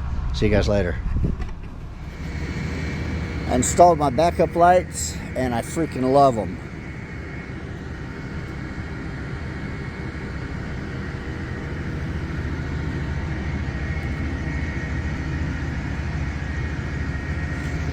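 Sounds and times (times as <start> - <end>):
diesel truck engine rumbling: 0.0 - 17.9.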